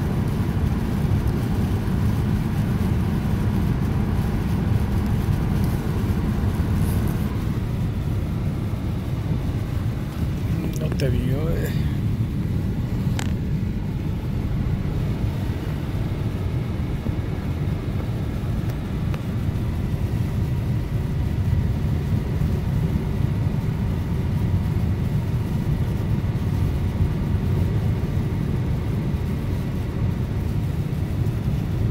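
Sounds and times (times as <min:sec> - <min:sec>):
car engine and tyre rumble: 0:00.0 - 0:31.9.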